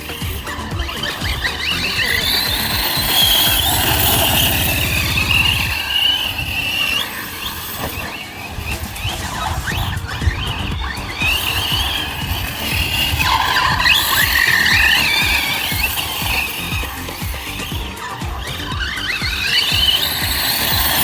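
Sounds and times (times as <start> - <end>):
rc car motor whining: 0.0 - 21.0
rough low rumbling: 0.0 - 21.0.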